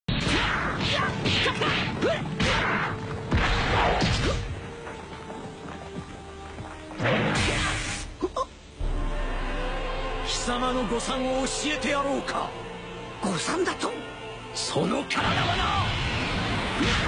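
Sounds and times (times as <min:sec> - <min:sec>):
faint background music: 0:00.1 - 0:17.0.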